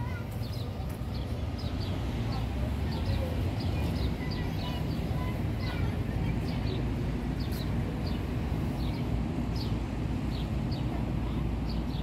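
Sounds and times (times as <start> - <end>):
city traffic rumble: 0.0 - 12.0
small birds chirping: 0.0 - 12.0.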